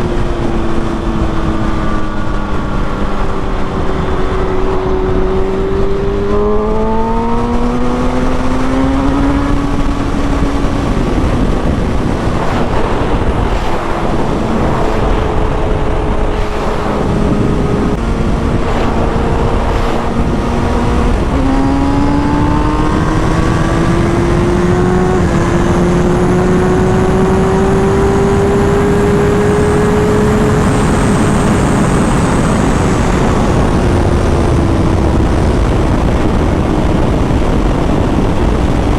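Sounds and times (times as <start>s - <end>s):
motorcycle engine at speed: 0.0s - 38.9s
wind rush on microphone: 0.0s - 38.9s.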